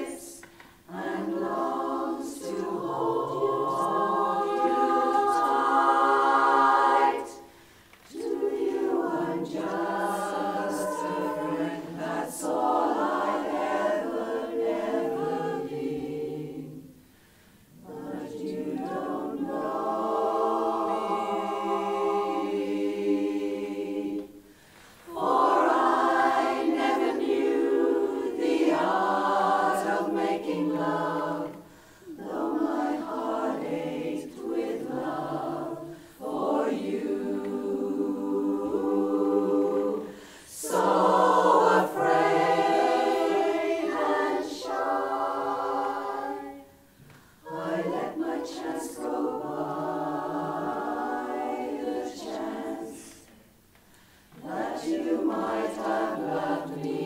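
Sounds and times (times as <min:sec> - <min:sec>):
women's chorus singing a cappella: 0:00.0 - 0:57.0.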